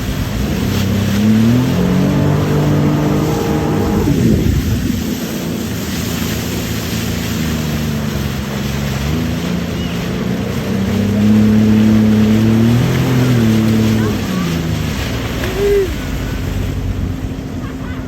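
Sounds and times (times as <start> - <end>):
jet ski engine running: 0.0 - 18.0
wind and water hiss: 0.0 - 18.0.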